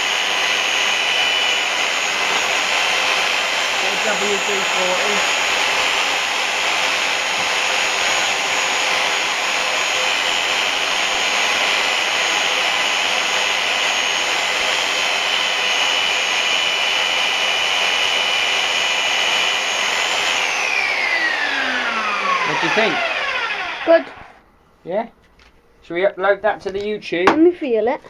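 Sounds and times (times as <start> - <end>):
belt sander hissing and whining: 0.0 - 25.0.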